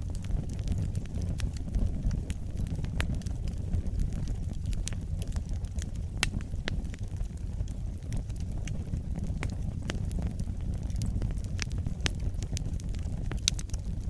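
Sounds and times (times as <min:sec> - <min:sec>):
fire crackles and pops: 0:00.0 - 0:14.0
wood fire rumbling: 0:00.0 - 0:14.0.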